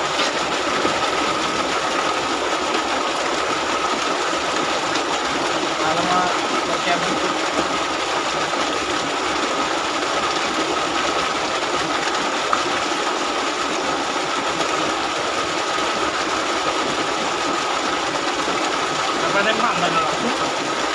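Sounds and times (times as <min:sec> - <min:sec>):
water pouring in a stream: 0:00.0 - 0:20.9.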